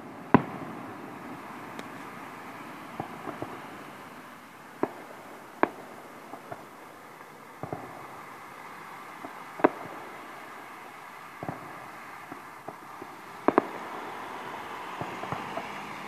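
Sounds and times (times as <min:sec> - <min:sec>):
distant firework bangs: 0:00.0 - 0:16.0
steady background hiss: 0:00.0 - 0:16.0.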